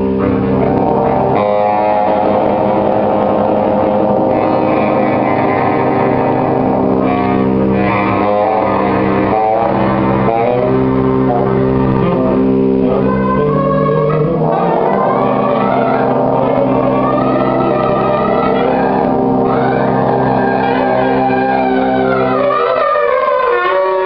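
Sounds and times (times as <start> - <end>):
jazz big band music: 0.0 - 24.0.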